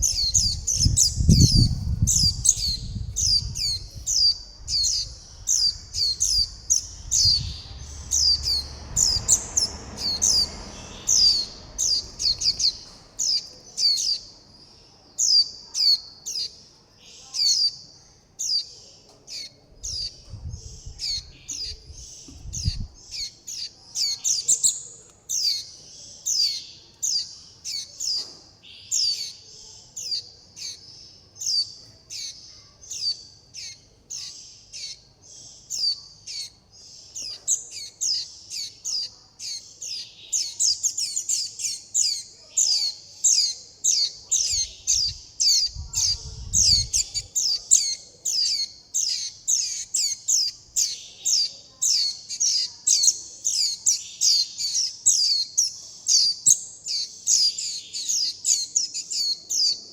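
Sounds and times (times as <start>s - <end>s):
chicks begging chirps: 0.0s - 14.5s, 15.2s - 59.9s.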